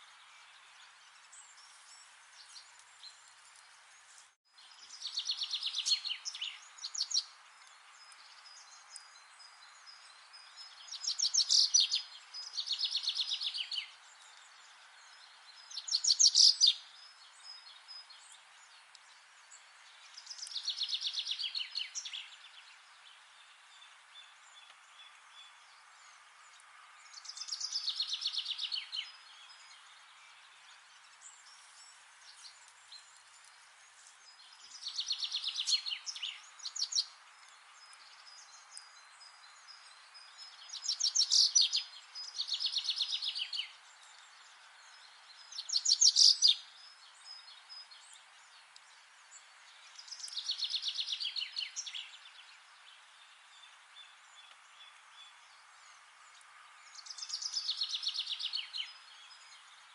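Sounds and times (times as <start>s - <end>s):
faint background hiss: 0.0s - 59.9s.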